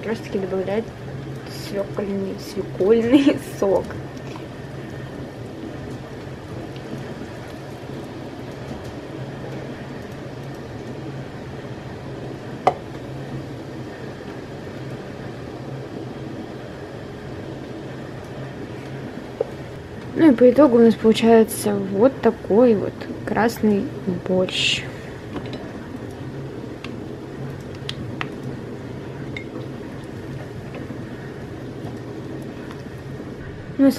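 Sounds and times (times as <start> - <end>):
low hum and hiss: 0.0 - 33.9.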